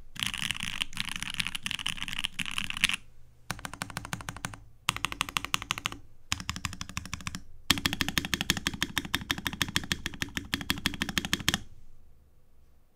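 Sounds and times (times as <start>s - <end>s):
mechanical keyboard typing: 0.2s - 11.7s.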